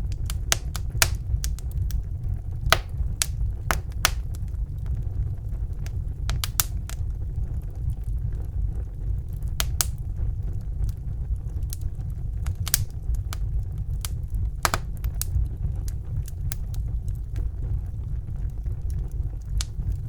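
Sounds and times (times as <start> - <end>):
wood fire crackling in fireplace: 0.0 - 20.0.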